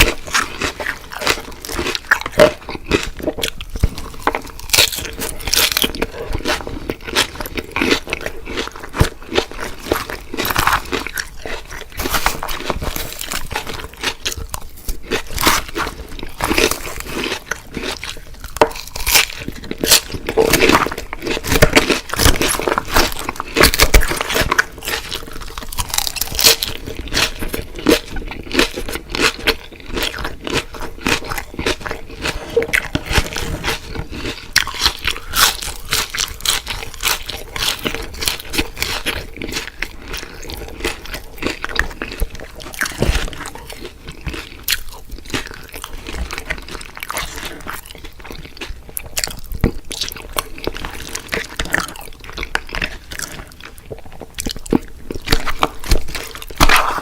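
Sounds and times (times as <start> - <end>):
crunchy bites into fried food: 0.0 - 57.0
wet chewing: 0.0 - 57.0.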